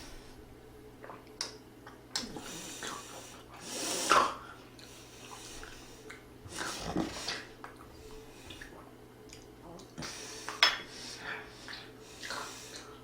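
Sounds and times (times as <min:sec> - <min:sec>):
person eating: 0:01.0 - 0:13.0.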